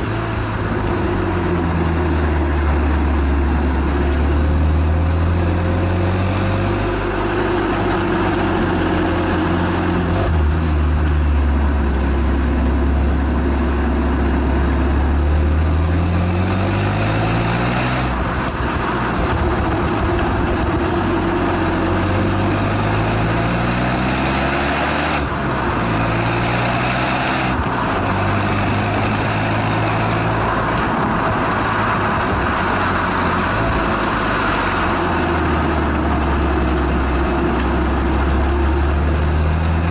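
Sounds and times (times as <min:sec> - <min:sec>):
car engine revving and shifting: 0:00.0 - 0:39.9
road and wind noise: 0:00.0 - 0:39.9.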